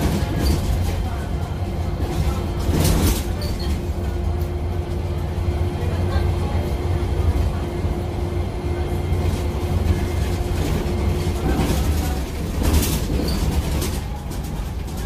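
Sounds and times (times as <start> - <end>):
vehicle rumbling: 0.0 - 15.0.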